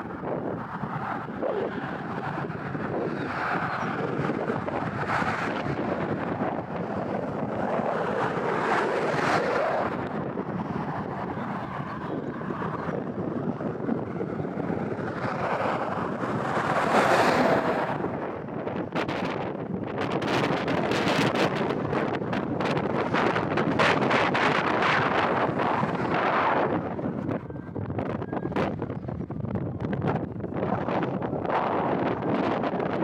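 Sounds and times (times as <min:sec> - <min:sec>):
wind gusting across microphone: 0:00.0 - 0:33.0.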